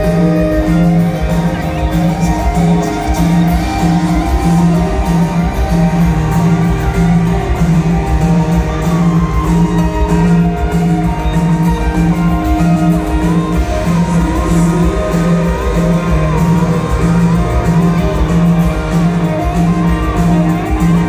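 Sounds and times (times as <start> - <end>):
drums: 0.0 - 21.0
electric guitar with bent notes: 0.0 - 21.0.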